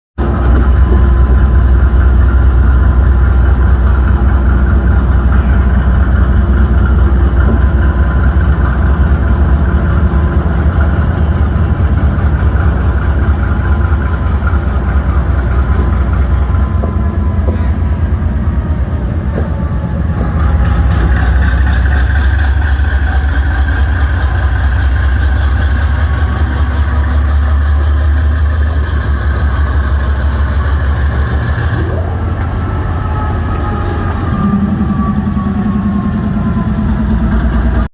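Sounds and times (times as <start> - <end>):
locomotive engine droning: 0.2 - 37.9.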